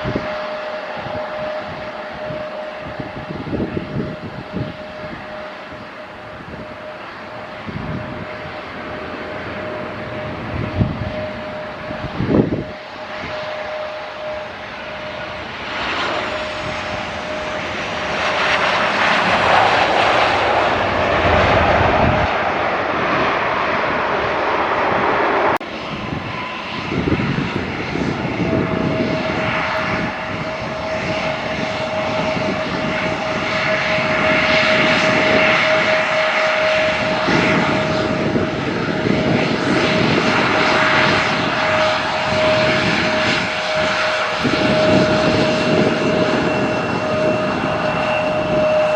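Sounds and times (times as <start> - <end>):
airliner engines roaring: 0.0 - 48.9
high engine whine: 0.0 - 48.9.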